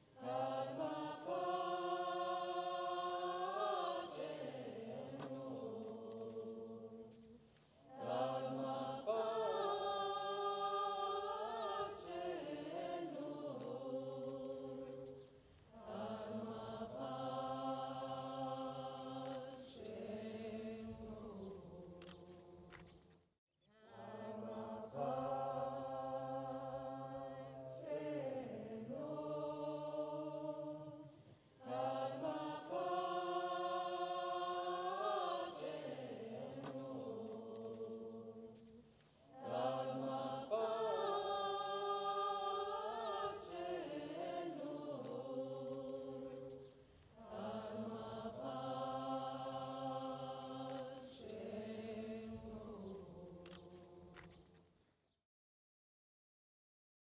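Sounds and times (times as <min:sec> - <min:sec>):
voices singing slow chant: 0:00.0 - 0:23.0, 0:23.6 - 0:54.6.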